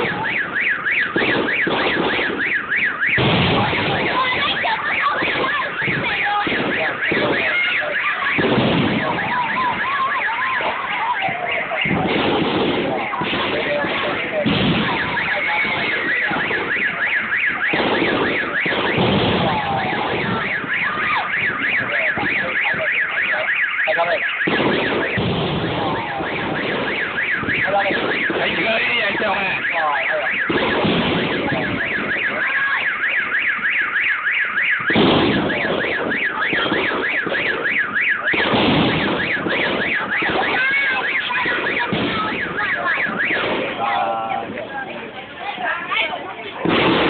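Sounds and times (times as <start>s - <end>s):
car alarm warbling: 0.0s - 47.0s
fireworks din: 0.0s - 47.0s.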